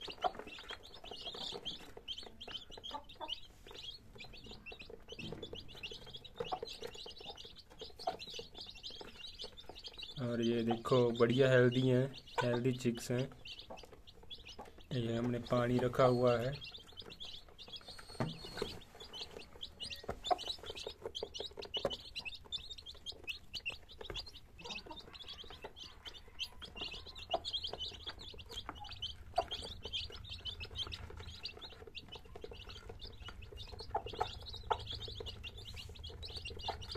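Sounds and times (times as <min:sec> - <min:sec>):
beaks pecking plastic feeder: 0:00.0 - 0:36.9
chicks peeping: 0:00.0 - 0:36.9.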